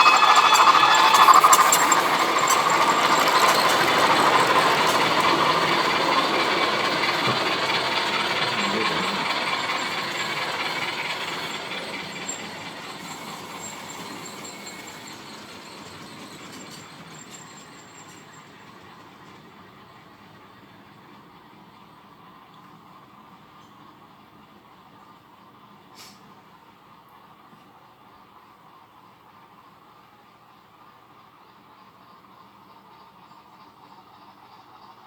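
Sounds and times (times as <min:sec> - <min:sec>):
model train running on track: 0:00.0 - 0:35.0.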